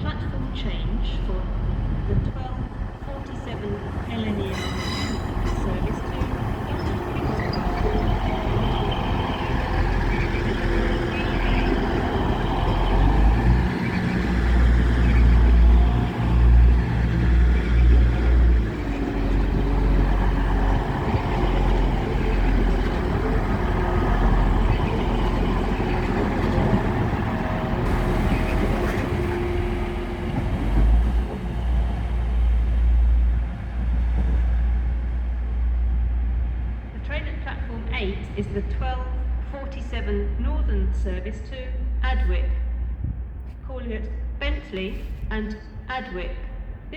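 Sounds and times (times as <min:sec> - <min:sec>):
train engine hum: 0:00.0 - 0:46.9
train rumbling: 0:00.0 - 0:46.9.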